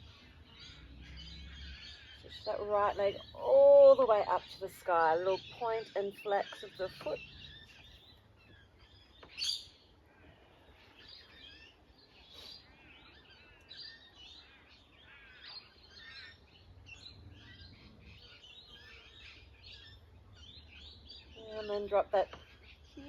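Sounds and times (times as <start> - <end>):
wild birds chirping and singing: 0.0 - 23.0.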